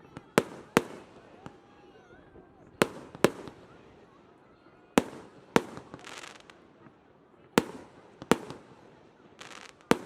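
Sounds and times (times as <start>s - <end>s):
fireworks banging and crackling: 0.0s - 4.2s, 4.9s - 10.0s.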